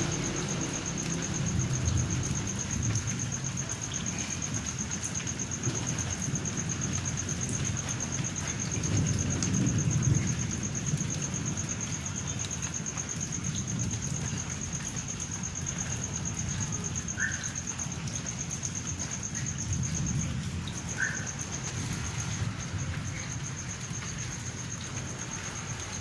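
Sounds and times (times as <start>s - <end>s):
steady rain: 0.0s - 26.0s
thunder rumble: 0.0s - 26.0s.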